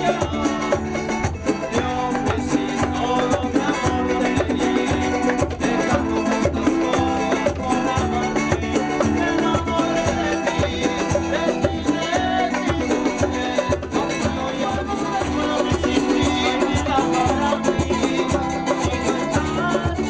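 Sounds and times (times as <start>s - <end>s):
acoustic guitar strumming: 0.0s - 20.0s
bongos beat: 0.0s - 20.0s
man singing: 0.0s - 20.0s.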